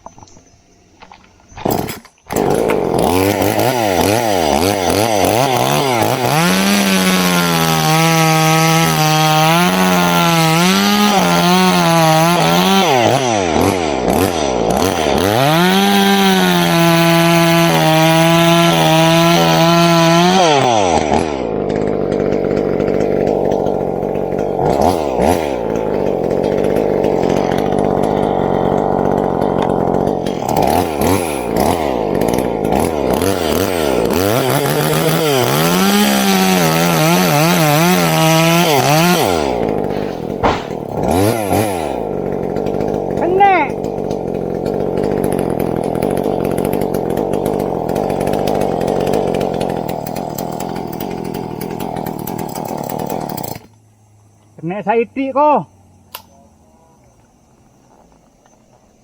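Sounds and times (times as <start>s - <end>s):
two-stroke chainsaw revving: 1.6s - 53.8s.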